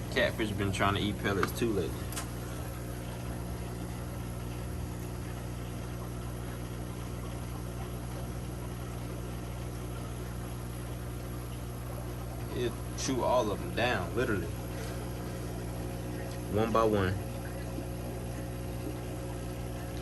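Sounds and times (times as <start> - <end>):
aquarium pump humming: 0.0 - 20.0.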